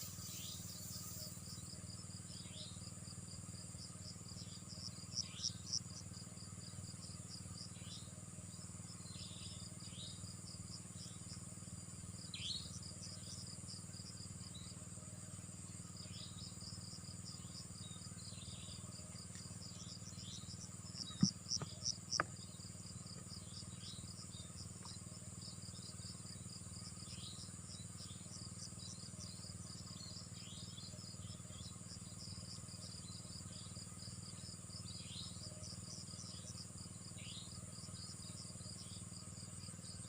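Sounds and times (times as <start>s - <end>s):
high insect buzz: 0.0s - 40.0s
insects chirping: 0.0s - 40.0s.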